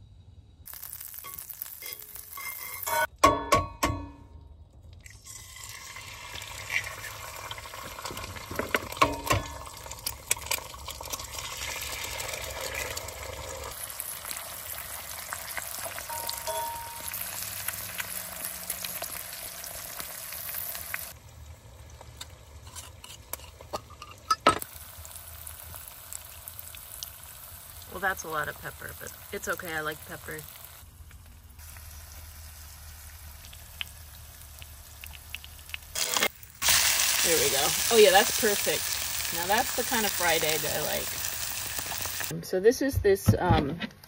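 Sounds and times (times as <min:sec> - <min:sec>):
eggs sizzling in a skillet: 0:00.6 - 0:03.1, 0:05.0 - 0:42.3.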